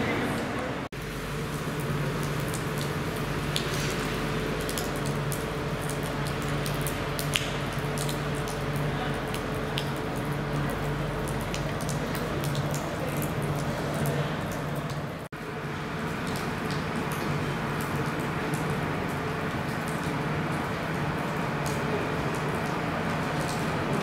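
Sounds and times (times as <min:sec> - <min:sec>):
rain splashing into puddles: 0:00.0 - 0:24.0.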